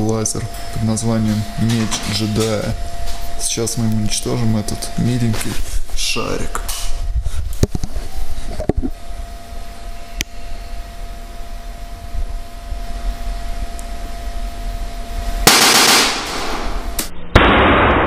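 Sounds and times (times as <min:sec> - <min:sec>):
faint steady whine: 0:00.0 - 0:17.3.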